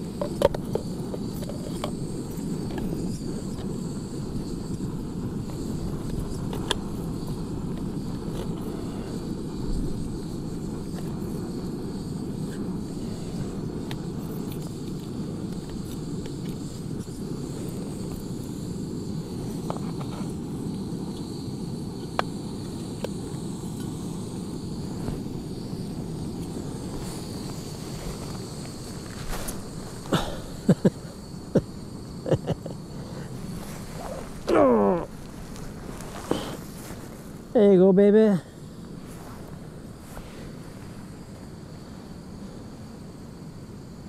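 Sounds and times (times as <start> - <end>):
wind buffeting tent: 0.0 - 32.2, 32.8 - 37.6
camping stove burner roaring: 0.0 - 44.0.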